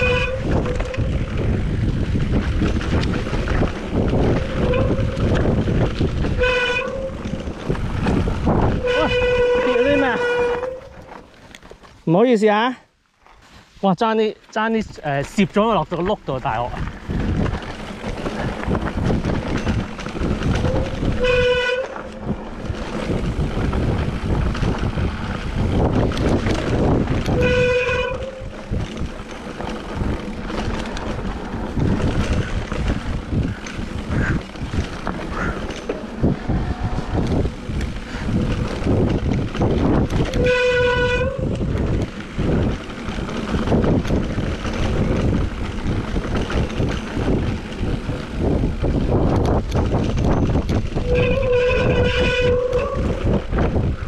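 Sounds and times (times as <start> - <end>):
bike tyres and frame rattling: 0.0 - 54.0.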